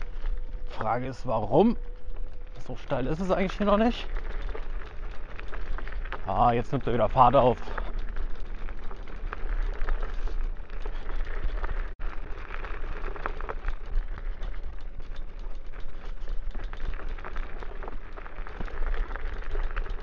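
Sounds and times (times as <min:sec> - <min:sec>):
scooter rattling over rough trail: 0:00.0 - 0:20.0.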